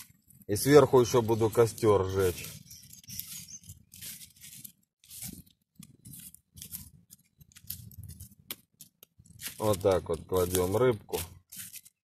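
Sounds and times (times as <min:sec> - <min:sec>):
embers crunching and scraping: 0:00.0 - 0:12.0.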